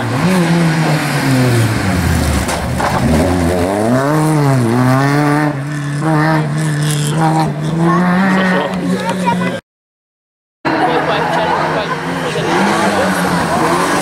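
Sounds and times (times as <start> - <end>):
rally car engine at high revs: 0.0 - 9.6, 10.7 - 14.0.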